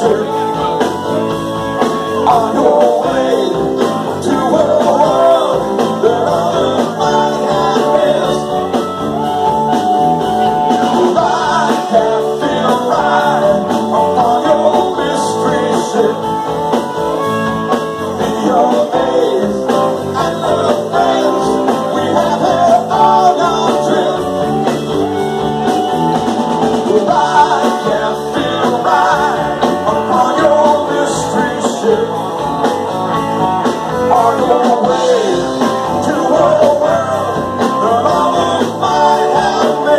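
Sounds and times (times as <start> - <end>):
man singing: 0.0 - 9.0, 10.5 - 24.9, 26.7 - 32.7, 33.6 - 39.9
live rock band playing: 0.0 - 39.9.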